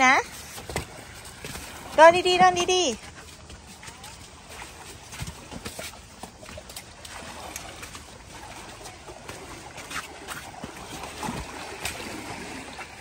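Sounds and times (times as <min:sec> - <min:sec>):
light footsteps on rock and sand: 0:00.0 - 0:12.0
small waves lapping on beach: 0:00.0 - 0:13.0.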